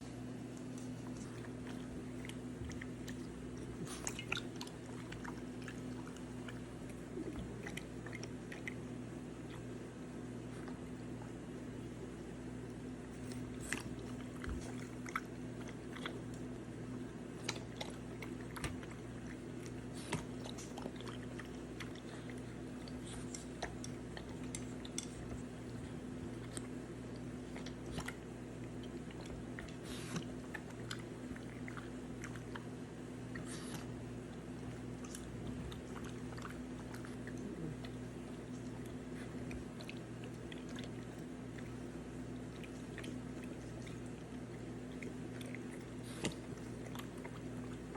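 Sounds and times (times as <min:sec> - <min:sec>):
dog chewing and mouth clicks: 0:00.0 - 0:47.9
steady low hum: 0:00.0 - 0:47.9.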